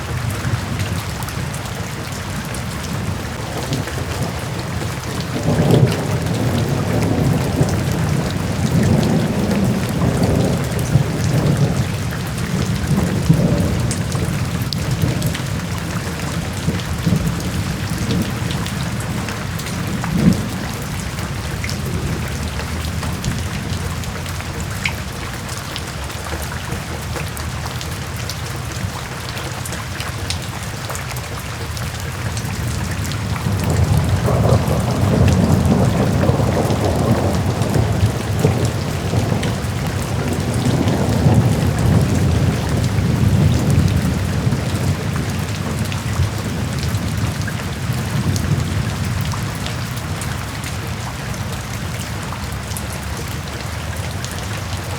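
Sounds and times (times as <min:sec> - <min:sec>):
low rumble of thunder: 0:00.0 - 0:27.6, 0:32.3 - 0:54.9
steady rainfall: 0:00.0 - 0:54.9.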